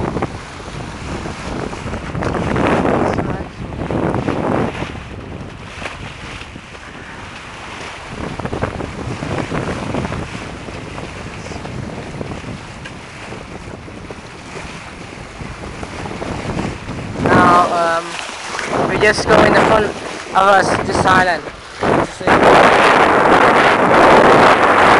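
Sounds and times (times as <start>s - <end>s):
water splashing along hull: 0.0s - 24.9s
wind buffeting microphone: 0.0s - 24.9s.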